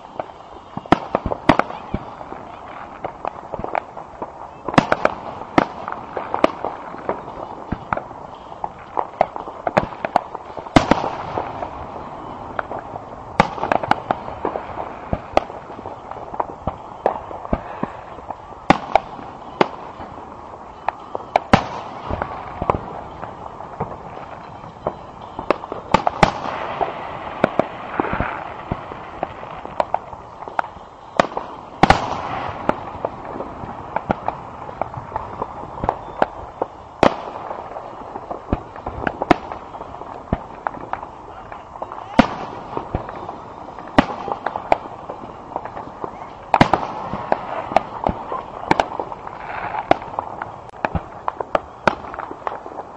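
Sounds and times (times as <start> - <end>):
constant background noise: 0.0 - 52.9
fireworks bursting bangs: 0.0 - 52.9.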